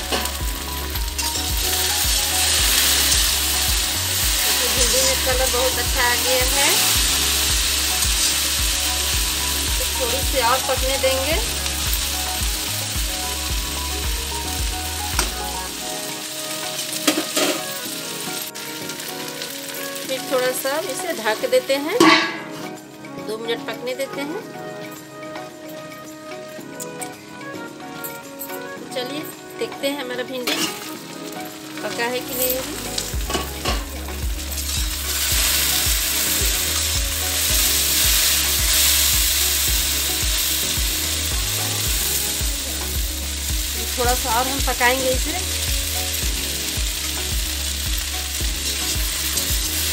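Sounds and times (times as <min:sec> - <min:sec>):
okra sizzling in a pan: 0:00.0 - 0:25.2, 0:29.6 - 0:49.9.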